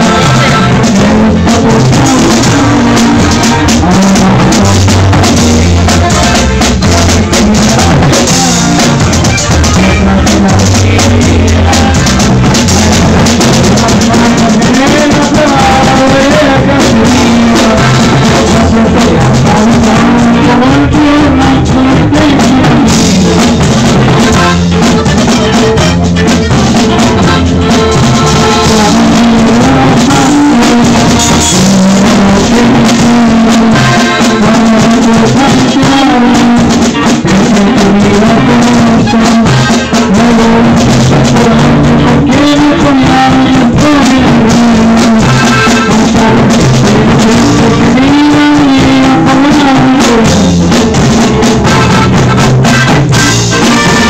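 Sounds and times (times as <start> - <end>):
button accordion: 0.0 - 54.0
drum kit: 0.0 - 54.0
electric bass: 0.0 - 54.0
guitar: 0.0 - 54.0
person singing into a microphone: 0.0 - 54.0.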